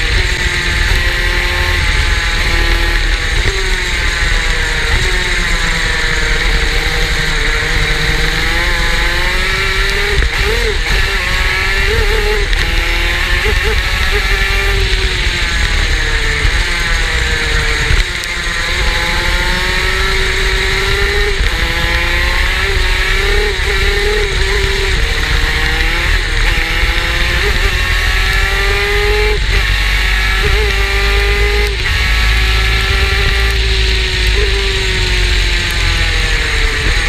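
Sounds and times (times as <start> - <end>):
two-stroke engine revving: 0.0 - 37.0.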